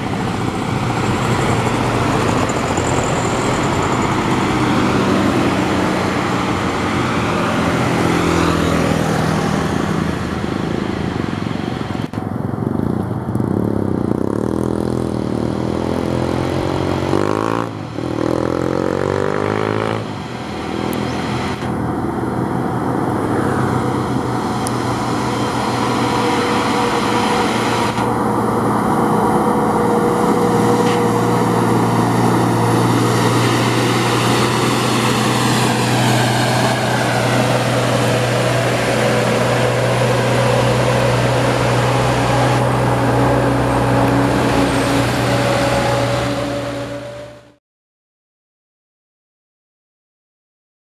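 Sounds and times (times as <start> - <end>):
car passing: 0.0 - 47.4
truck diesel engine droning: 0.0 - 47.6.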